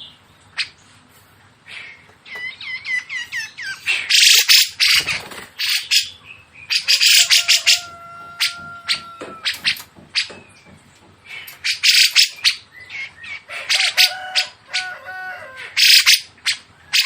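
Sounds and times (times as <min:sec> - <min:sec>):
harsh rasping bird calls: 0:01.6 - 0:17.0
songbird chirping: 0:01.7 - 0:17.0.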